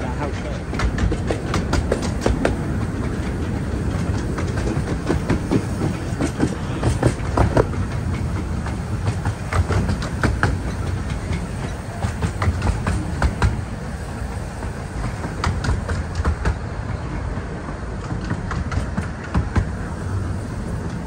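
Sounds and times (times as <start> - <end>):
miniature train rumbling: 0.0 - 21.0
wheels clicking over rail joints: 0.0 - 21.0.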